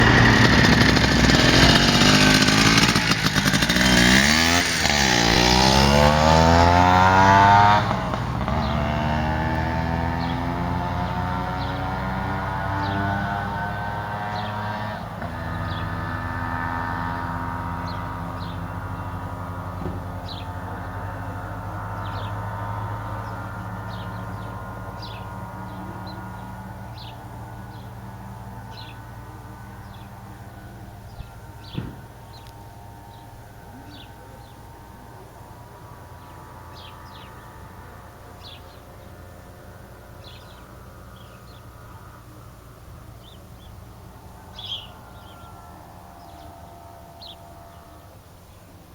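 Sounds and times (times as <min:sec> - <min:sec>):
moped two-stroke engine: 0:00.0 - 0:48.9.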